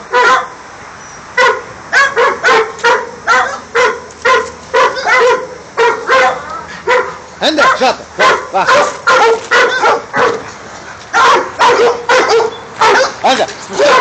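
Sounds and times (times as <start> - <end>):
dog barking: 0.1 - 0.6, 1.4 - 10.5, 11.1 - 14.0.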